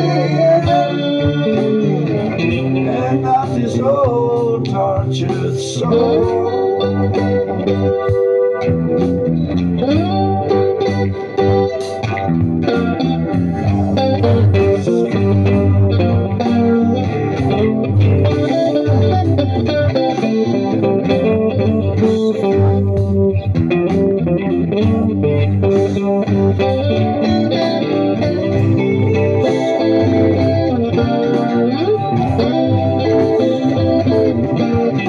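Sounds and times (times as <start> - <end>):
electric guitar playing: 0.0 - 35.0
steady bass line: 0.0 - 35.0.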